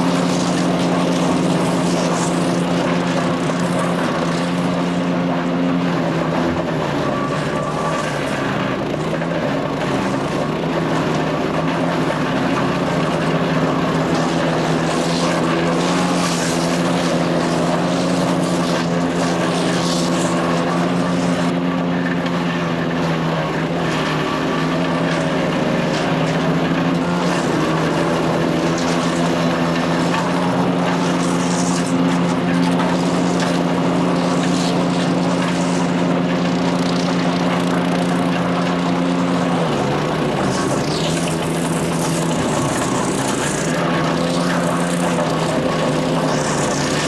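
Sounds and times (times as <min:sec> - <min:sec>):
cutting drum whir: 0:00.0 - 0:47.0
wood chipper engine running: 0:00.0 - 0:47.0
wood crackling through chipper: 0:00.0 - 0:47.0.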